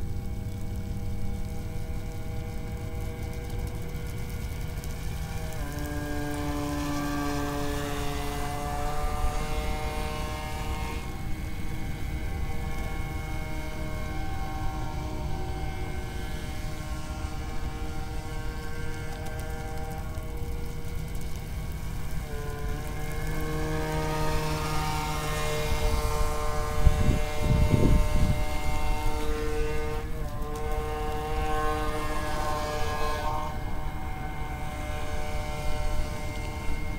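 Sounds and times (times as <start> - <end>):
boat motor and propeller whining: 0.0 - 36.9.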